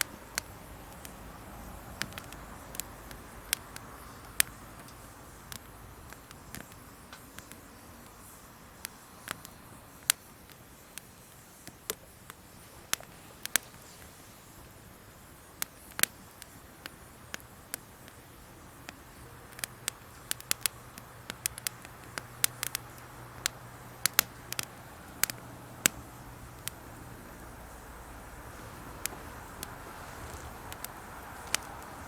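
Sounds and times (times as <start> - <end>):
campfire crackling: 0.0 - 32.0
fire hiss: 0.0 - 32.0.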